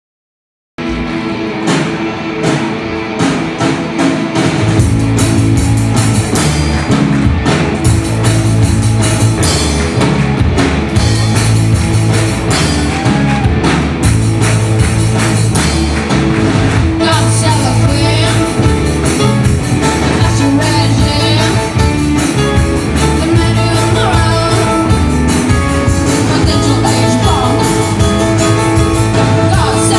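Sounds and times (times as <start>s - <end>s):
drum kit: 0.8s - 29.9s
electric guitars: 0.8s - 29.9s
rock band playing: 0.8s - 29.9s.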